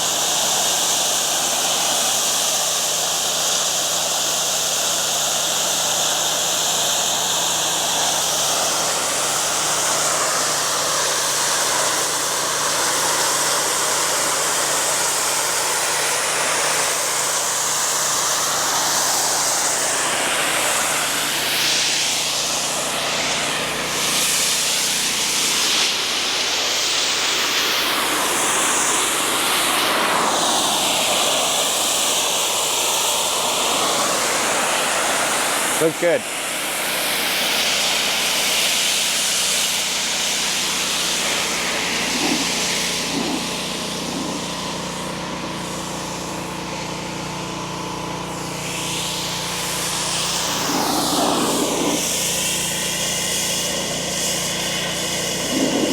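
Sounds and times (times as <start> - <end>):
pressure washer spraying concrete: 0.0 - 55.9.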